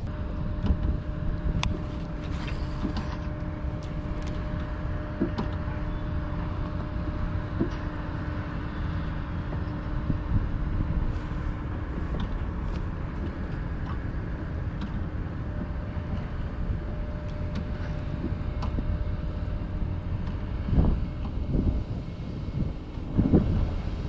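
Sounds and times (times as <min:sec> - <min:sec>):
electric trolling motor humming: 0:00.0 - 0:24.0
low rumble: 0:00.0 - 0:24.0.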